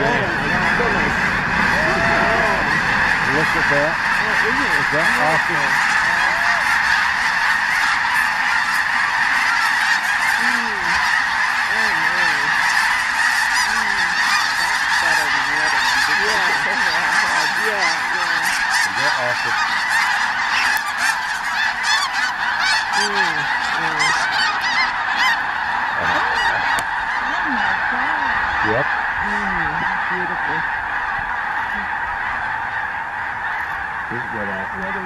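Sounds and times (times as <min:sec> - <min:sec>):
flock of geese honking: 0:00.0 - 0:35.0.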